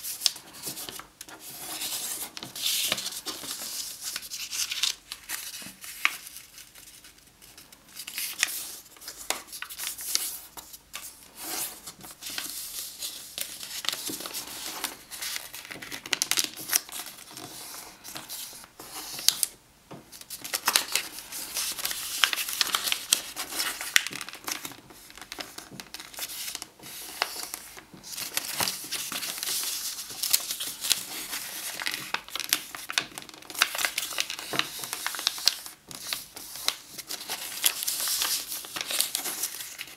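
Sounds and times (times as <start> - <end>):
paper folding and crinkling: 0.0 - 39.9.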